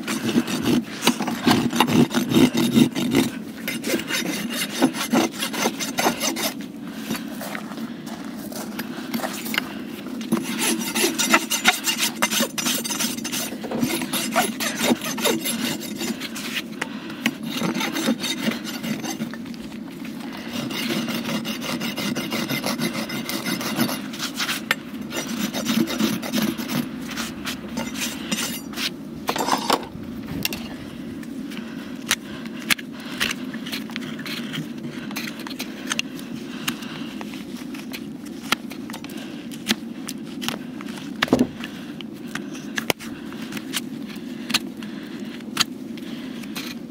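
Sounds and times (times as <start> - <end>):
rasp scraping hoof: 0.0 - 30.8, 31.5 - 39.8.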